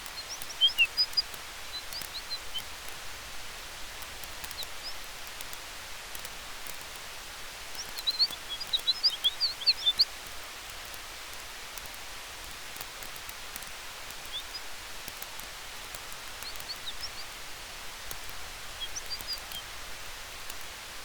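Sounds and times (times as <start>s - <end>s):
campfire crackling and popping: 0.0s - 21.0s
wind in trees: 0.0s - 21.0s.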